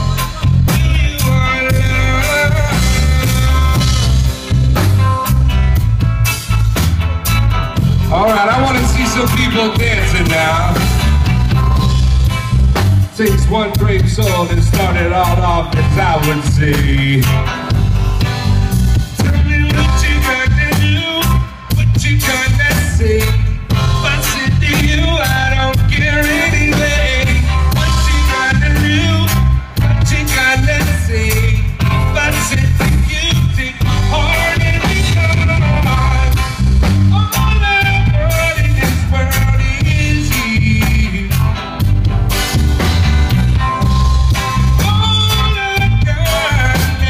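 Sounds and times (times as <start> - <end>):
drum kit: 0.0 - 47.0
electric guitar: 0.0 - 47.0
heavy bass line: 0.0 - 47.0.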